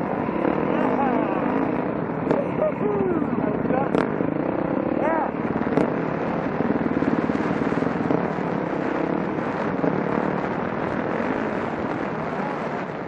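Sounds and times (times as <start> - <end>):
dirt bike engine running hard: 0.0 - 13.0
rushing noise: 0.0 - 13.0.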